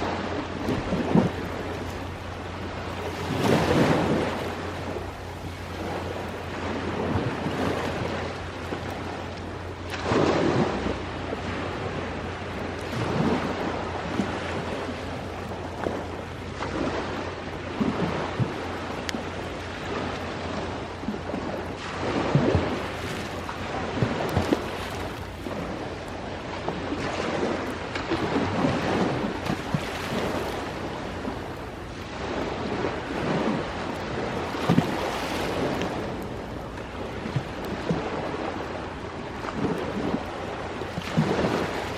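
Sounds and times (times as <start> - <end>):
ocean waves on shore: 0.0 - 41.9.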